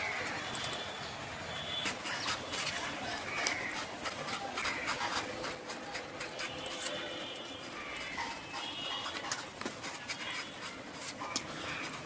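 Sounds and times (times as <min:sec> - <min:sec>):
knife scraping gourd skin: 0:01.6 - 0:12.0.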